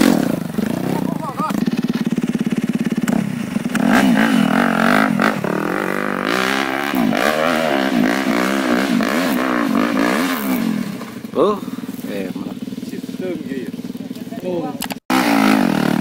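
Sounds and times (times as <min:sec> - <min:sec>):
motorcycle engine revving: 0:00.0 - 0:16.0
motorcycle idling putter: 0:00.0 - 0:16.0.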